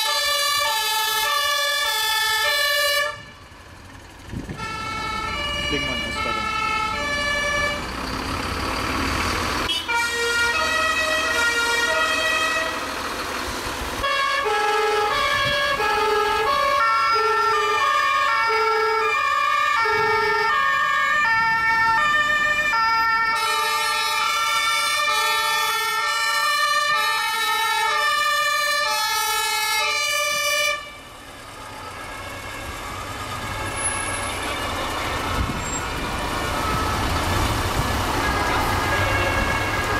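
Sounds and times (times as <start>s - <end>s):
two-tone fire engine sirens: 0.0s - 39.9s
engines low rumble: 0.5s - 24.6s, 25.4s - 39.9s.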